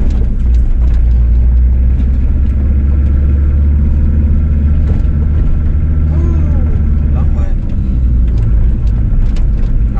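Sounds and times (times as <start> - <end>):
car engine and road drone: 0.0 - 9.9.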